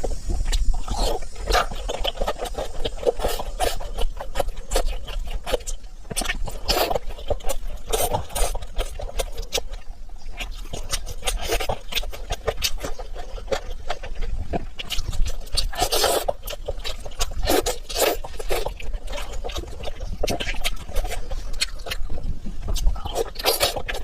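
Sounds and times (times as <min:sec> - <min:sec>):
chewing and lip-smacking: 0:00.0 - 0:24.0.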